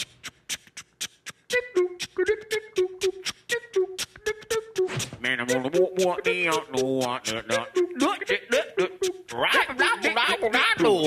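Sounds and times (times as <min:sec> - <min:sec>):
vocal beatboxing: 0:00.0 - 0:11.0
hummed melody: 0:01.5 - 0:11.0
person singing: 0:01.5 - 0:11.0.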